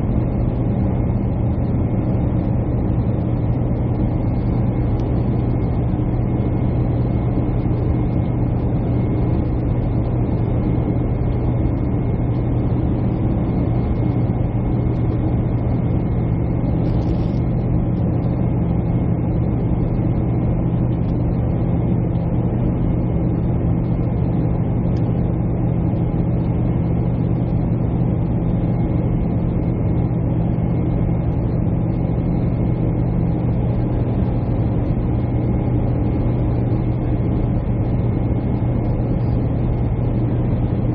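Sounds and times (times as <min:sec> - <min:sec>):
jet airliner cabin drone: 0:00.0 - 0:40.9.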